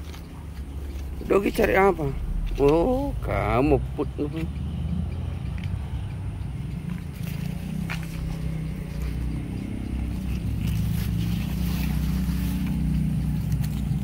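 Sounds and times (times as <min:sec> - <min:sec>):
engine running low: 0:00.0 - 0:14.0.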